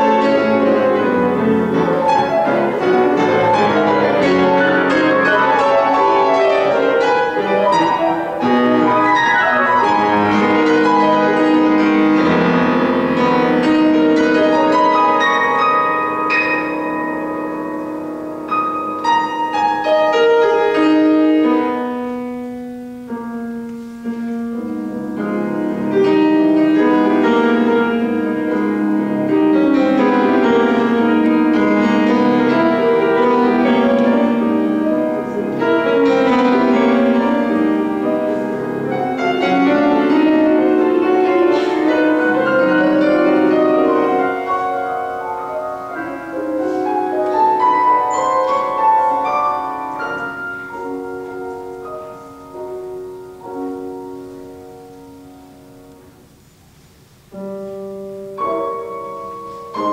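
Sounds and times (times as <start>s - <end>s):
classical piano piece: 0.0s - 59.9s.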